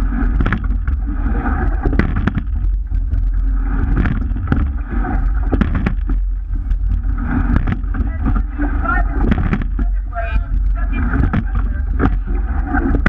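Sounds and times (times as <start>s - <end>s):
water rushing along hull: 0.0s - 13.0s
wind rumble on microphone: 0.0s - 13.0s.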